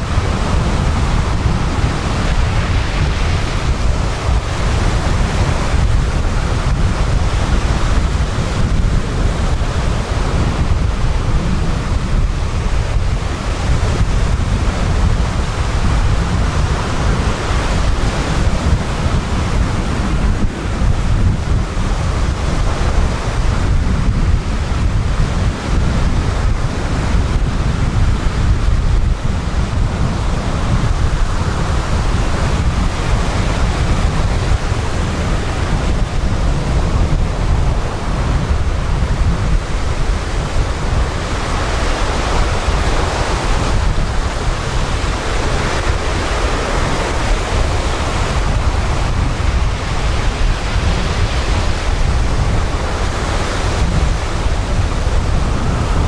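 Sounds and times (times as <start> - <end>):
waves washing on beach: 0.0 - 56.0
wind rumble on microphone: 0.0 - 56.0.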